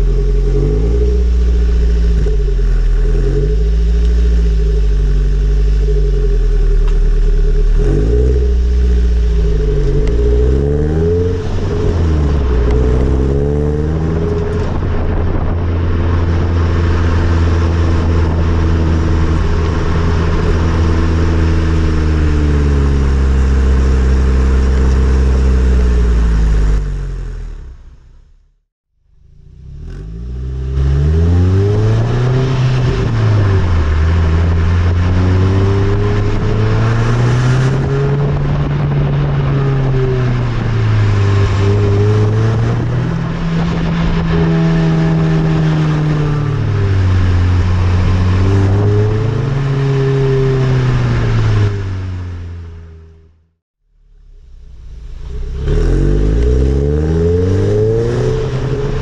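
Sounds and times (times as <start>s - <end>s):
car engine accelerating: 0.0s - 28.5s, 29.1s - 59.0s.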